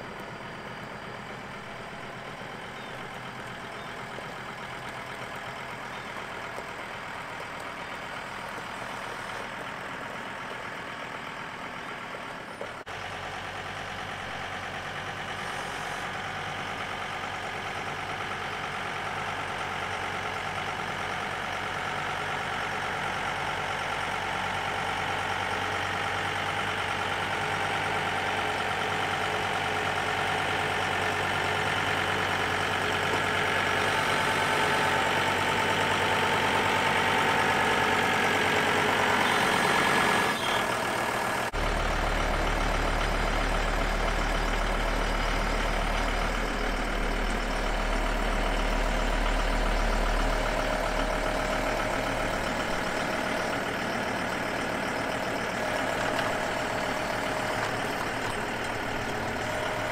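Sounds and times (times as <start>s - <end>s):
low engine hum: 0.0s - 59.9s
tractor diesel engine under load: 0.0s - 59.9s.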